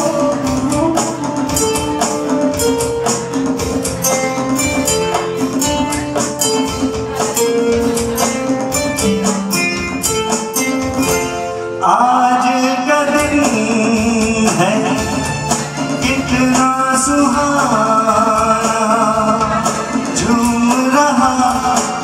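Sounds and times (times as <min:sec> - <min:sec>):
quick percussion strikes: 0:00.0 - 0:11.7, 0:13.0 - 0:22.0
live band playing: 0:00.0 - 0:22.0.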